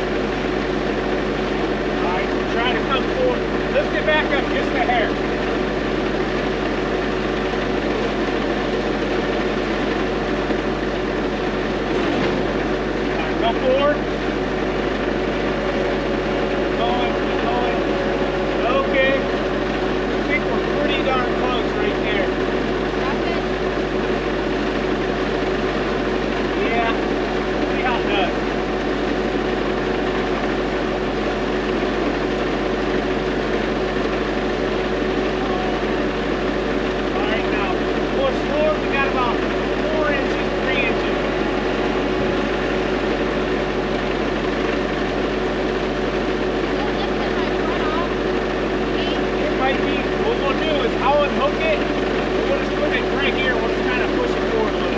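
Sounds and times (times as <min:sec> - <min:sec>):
heavy vehicle engine idling: 0:00.0 - 0:54.9.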